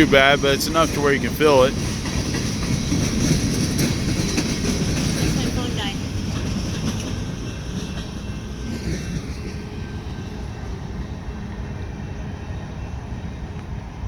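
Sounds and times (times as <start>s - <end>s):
freight train cars rumbling past: 0.0s - 14.0s.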